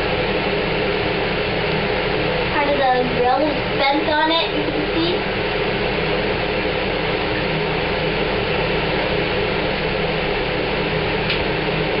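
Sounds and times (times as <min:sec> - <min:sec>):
exhaust fan whirring: 0:00.0 - 0:12.0.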